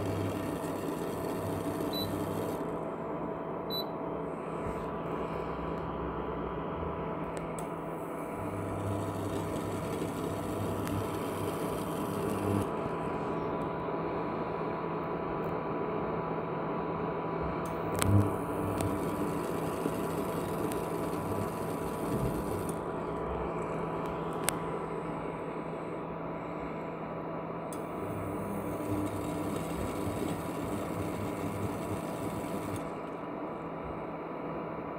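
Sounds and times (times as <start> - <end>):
cooktop fan hum: 0.0 - 34.9.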